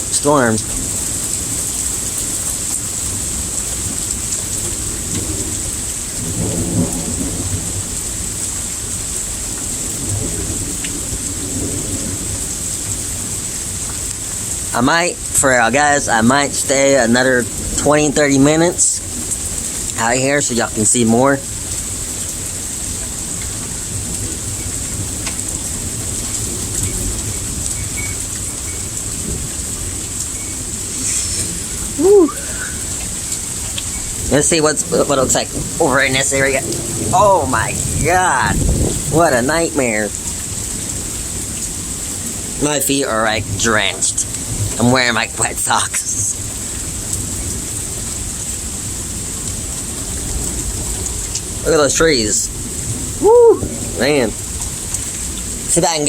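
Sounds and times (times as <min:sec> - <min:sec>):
heavy rain pouring: 0:00.0 - 0:56.0
thunder rumble: 0:00.0 - 0:56.0.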